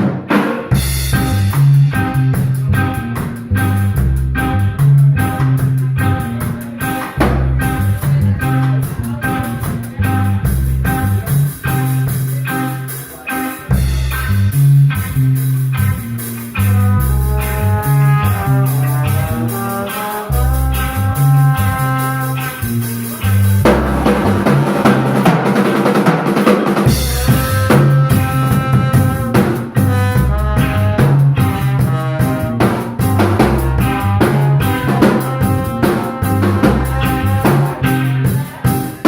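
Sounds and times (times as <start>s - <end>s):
bass line: 0.0s - 39.0s
drum kit beat: 0.0s - 39.0s
guitar lines: 0.0s - 39.0s.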